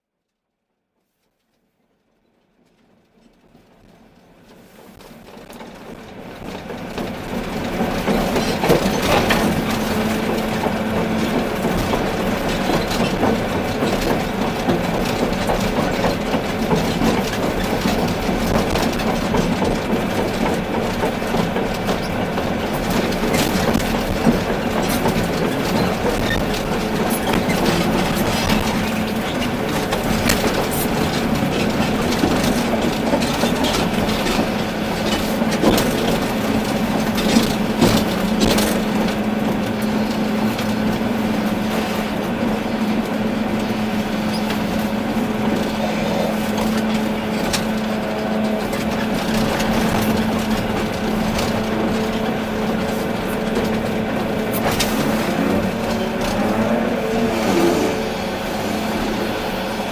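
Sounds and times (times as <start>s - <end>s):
excavator engine and hydraulic drone: 3.7s - 59.9s.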